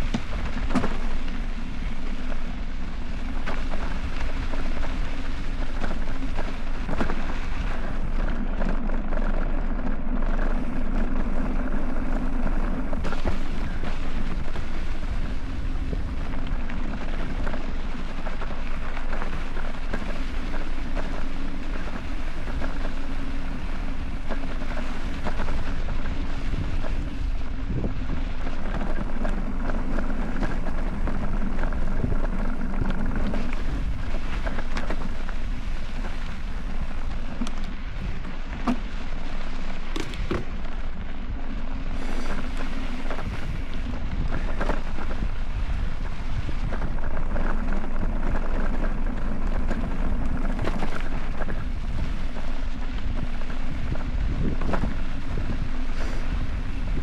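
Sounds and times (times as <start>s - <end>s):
bike clicks and rattles: 0.0s - 57.0s
bike tyres rolling on dirt: 0.0s - 57.0s
wind on microphone: 0.0s - 57.0s.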